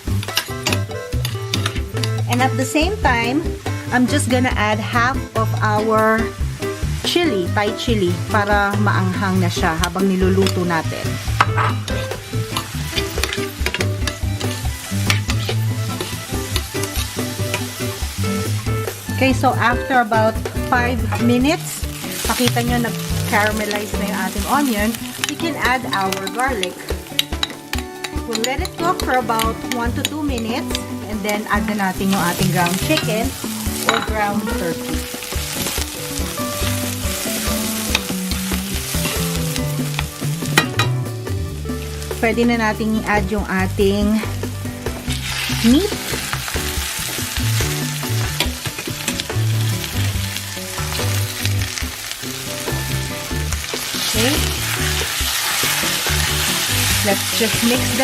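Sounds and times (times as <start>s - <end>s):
light background music: 0.0s - 58.0s
onions sizzling in hot oil: 0.0s - 58.0s.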